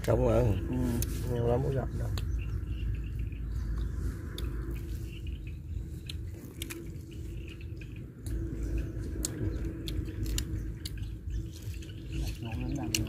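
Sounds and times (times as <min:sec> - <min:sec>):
low rumble: 0:00.0 - 0:13.0
person chewing crunchy food: 0:02.1 - 0:13.0.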